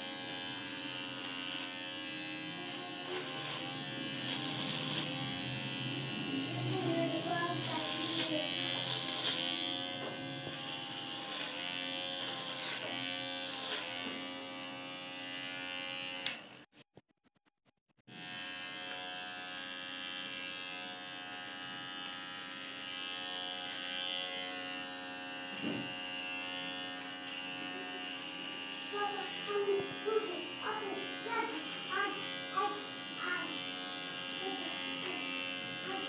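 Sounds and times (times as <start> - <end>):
electric hair clipper buzzing: 0.0 - 16.7, 18.1 - 36.0.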